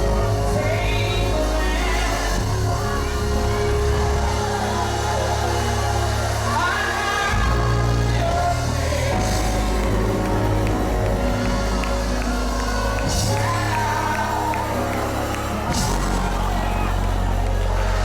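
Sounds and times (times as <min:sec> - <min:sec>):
band holding sustained chords: 0:00.0 - 0:18.0
person singing: 0:00.0 - 0:18.0.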